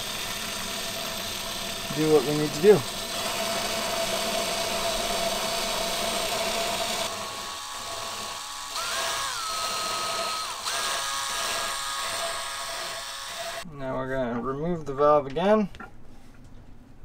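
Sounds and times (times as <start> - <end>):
cordless drill motor whine: 0.0 - 13.7.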